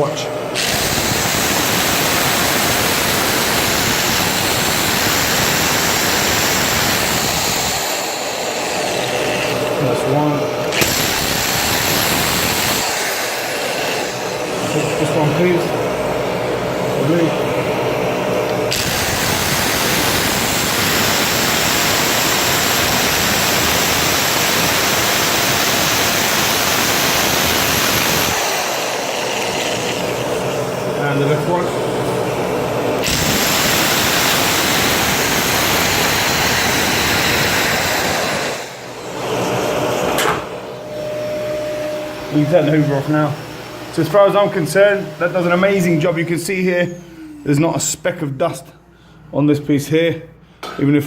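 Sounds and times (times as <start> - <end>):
vacuum cleaner running: 0.0 - 48.4
electric drill boring into wall: 0.5 - 9.8, 10.6 - 16.0, 18.0 - 47.6.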